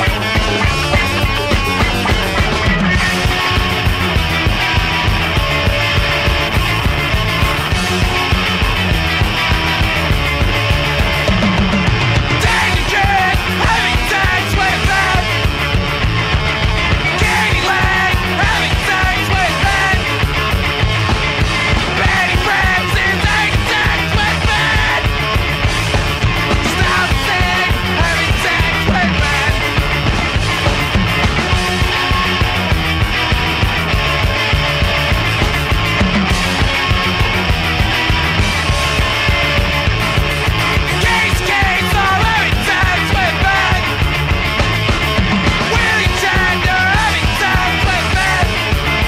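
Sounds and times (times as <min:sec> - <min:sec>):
punk rock band playing: 0:00.0 - 0:49.0.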